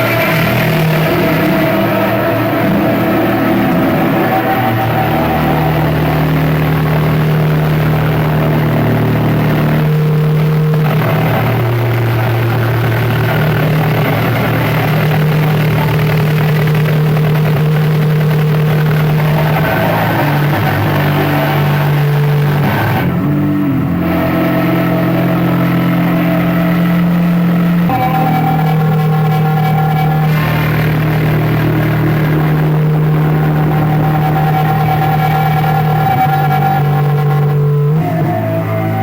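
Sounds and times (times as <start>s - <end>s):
distorted noise wall: 0.0s - 39.0s
low droning tones: 0.0s - 39.0s.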